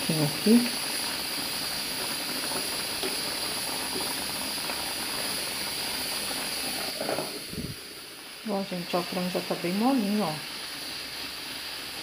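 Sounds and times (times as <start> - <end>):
pressure cooker hissing: 0.0 - 12.0.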